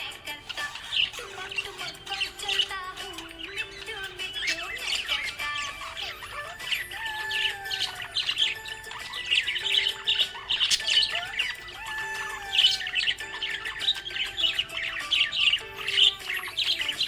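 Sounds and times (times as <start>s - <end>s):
budgerigar chirping: 0.0s - 17.0s
music playing: 0.0s - 17.0s.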